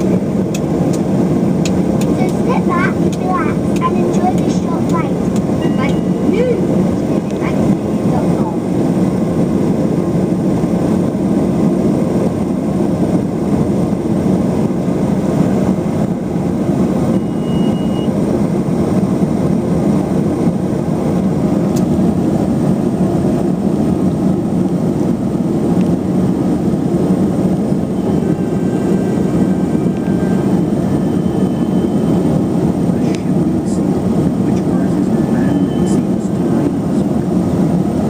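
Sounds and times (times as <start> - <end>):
turboprop engines droning: 0.0 - 38.0.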